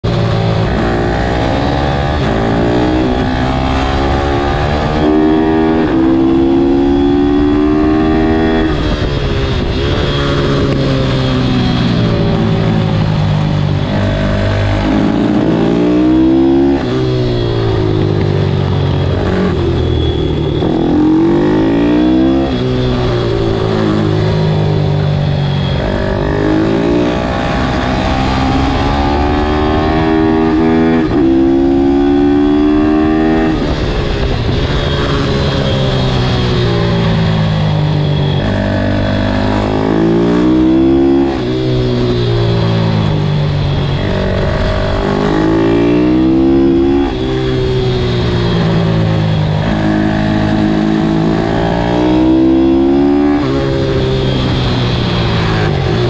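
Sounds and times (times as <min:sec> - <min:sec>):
race motorcycle engine shifting gears: 0:00.0 - 0:56.0
wind and road noise: 0:00.0 - 0:56.0.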